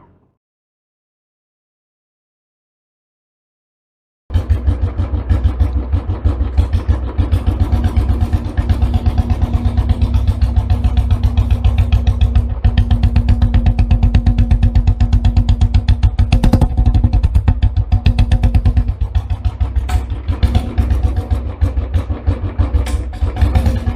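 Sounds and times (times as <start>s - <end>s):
engine chugging rapidly: 4.3s - 23.9s.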